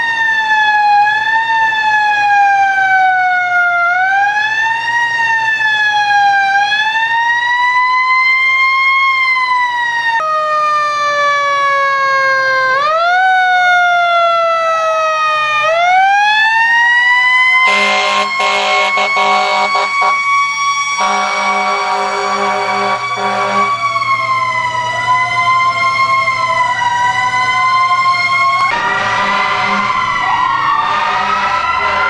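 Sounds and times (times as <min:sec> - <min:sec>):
fire truck sirens wailing: 0:00.0 - 0:32.0.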